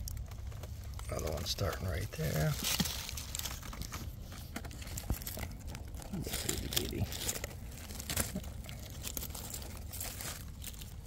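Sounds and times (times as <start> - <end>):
mushroom tearing: 0.0 - 11.0
rustling dry leaf litter: 0.0 - 11.0.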